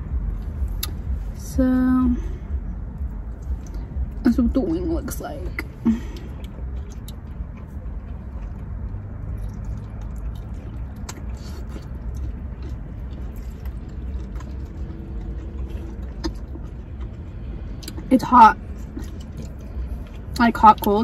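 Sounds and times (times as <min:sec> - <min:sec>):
low rumble inside car: 0:00.0 - 0:21.0
person chewing: 0:00.1 - 0:01.4, 0:02.8 - 0:04.2, 0:05.6 - 0:21.0.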